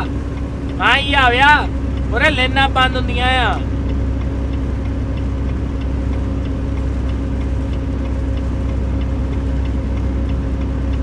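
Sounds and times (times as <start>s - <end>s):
faint regular ticking: 0.0s - 11.0s
truck engine and road noise: 0.0s - 11.0s.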